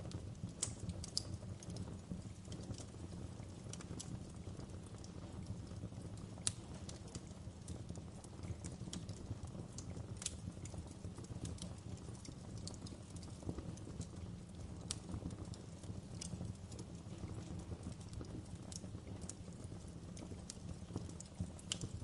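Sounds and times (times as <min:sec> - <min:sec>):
firewood crackling and popping: 0:00.0 - 0:22.0
low rumble of flames: 0:00.0 - 0:22.0.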